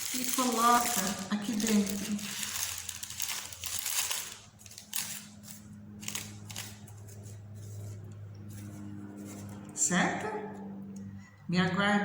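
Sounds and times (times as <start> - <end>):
paper rustling and crinkling: 0.0 - 9.7.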